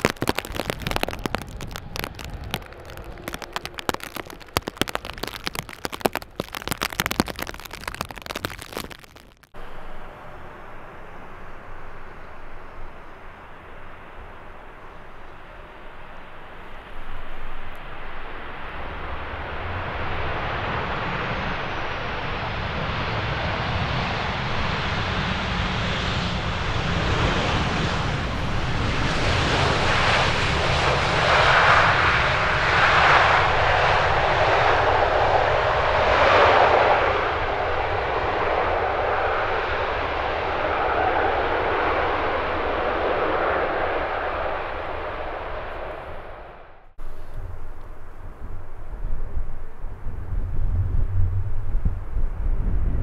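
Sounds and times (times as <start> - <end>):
jet airliner engines passing: 9.6 - 53.0.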